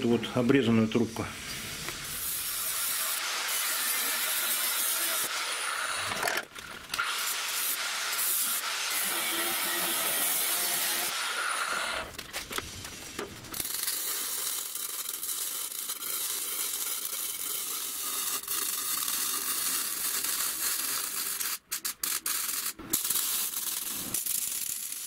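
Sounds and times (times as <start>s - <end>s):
arc welding crackling hiss: 0.9s - 5.9s, 7.0s - 25.0s.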